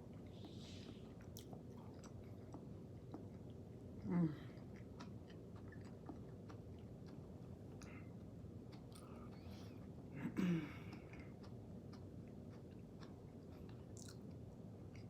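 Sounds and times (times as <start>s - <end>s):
wet chewing and mouth clicks: 0.0s - 10.0s, 10.6s - 15.0s.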